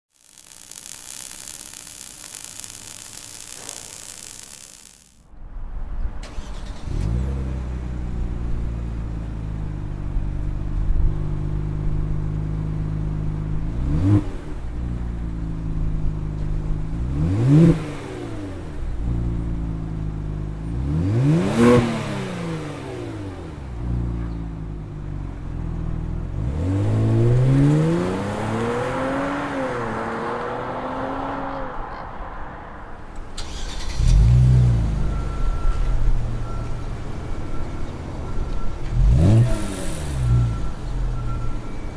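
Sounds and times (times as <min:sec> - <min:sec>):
car engine revving: 0:06.2 - 0:41.9.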